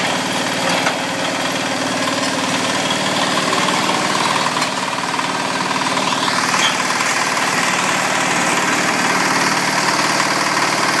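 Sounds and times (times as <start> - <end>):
diesel engine knocking: 0.0 - 11.0.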